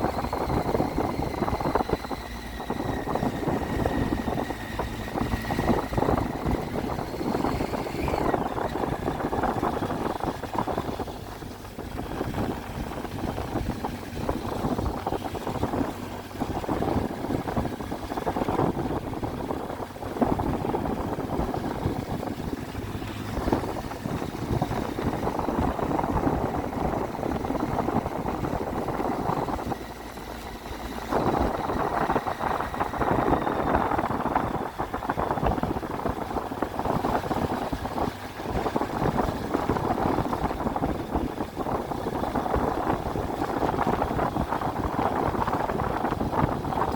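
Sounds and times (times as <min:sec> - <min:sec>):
motorcycle engine revving: 0:00.0 - 0:46.9
road and wind noise: 0:00.0 - 0:46.9.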